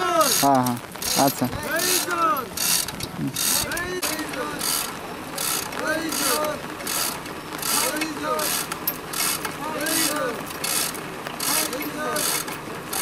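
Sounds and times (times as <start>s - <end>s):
chain hoist chain rattling: 0.0s - 13.0s.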